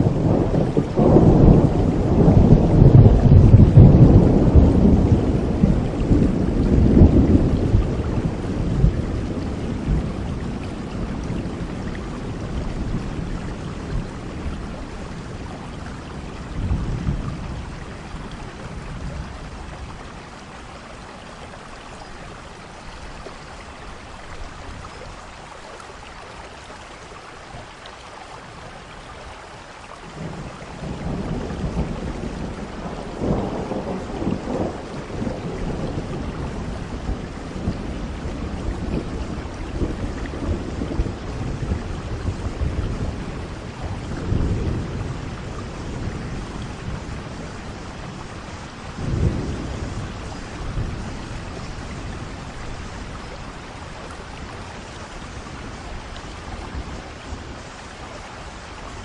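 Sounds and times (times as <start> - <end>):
roll of thunder: 0.0 - 20.0, 30.2 - 57.7
steady falling rain: 0.0 - 59.0.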